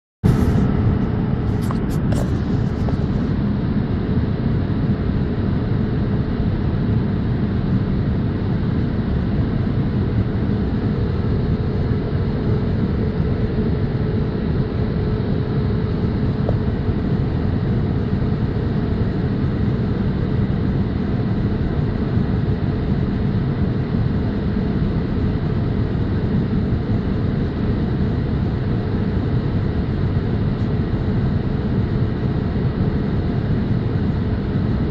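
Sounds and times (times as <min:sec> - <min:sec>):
airliner cabin rumble: 0:00.2 - 0:34.9.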